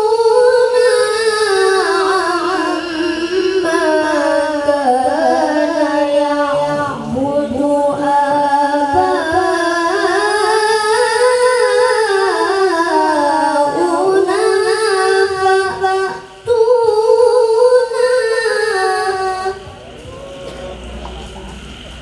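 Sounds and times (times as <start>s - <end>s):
boy reciting melodically: 0.0s - 19.9s.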